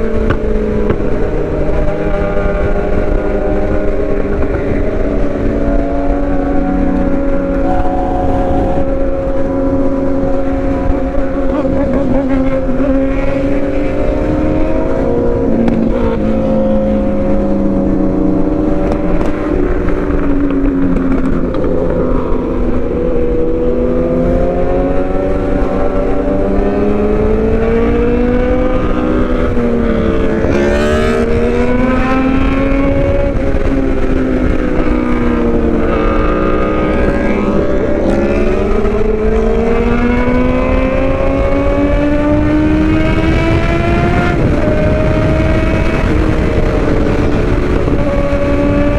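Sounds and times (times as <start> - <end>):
motorcycle engine revving: 0.0 - 48.9
wind rumble on microphone: 0.0 - 48.9.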